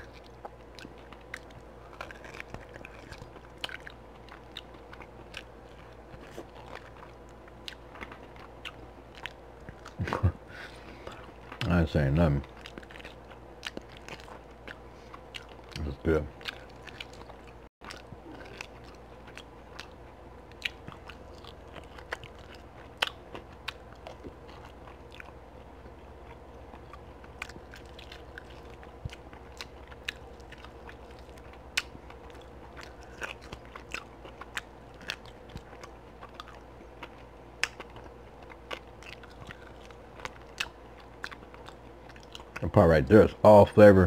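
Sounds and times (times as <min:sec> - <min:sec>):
eating and chewing ribs: 0:00.0 - 0:44.0
faint steady hum: 0:00.0 - 0:44.0.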